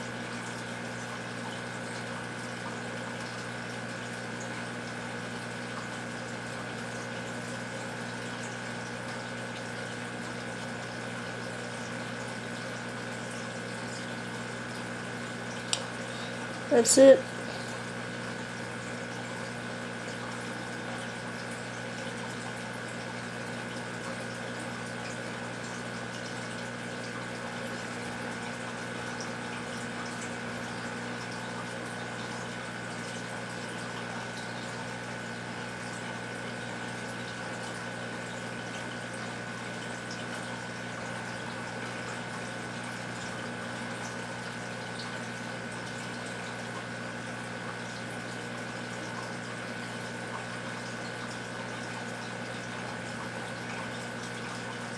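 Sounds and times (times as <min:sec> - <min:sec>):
aquarium pump hum: 0:00.0 - 0:54.9.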